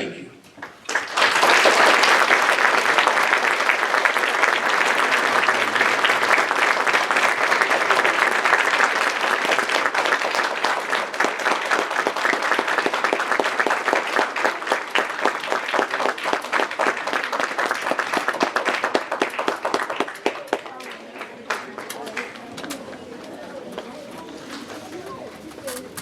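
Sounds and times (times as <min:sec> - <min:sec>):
audience applauding: 0:00.6 - 0:23.9.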